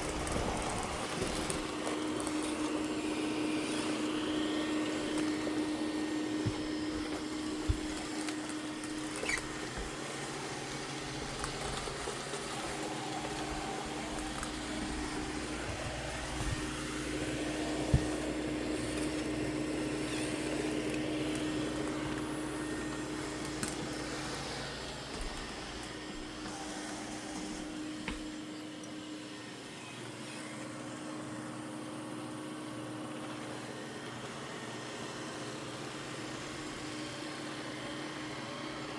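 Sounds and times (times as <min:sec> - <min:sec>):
robot vacuum motor hum: 0:00.0 - 0:38.9.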